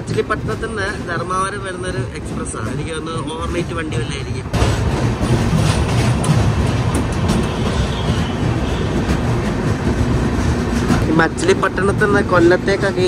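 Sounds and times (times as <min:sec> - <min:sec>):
train wheels rumbling on rails: 0:00.0 - 0:13.0
wheels clicking over rail joints: 0:00.0 - 0:13.0.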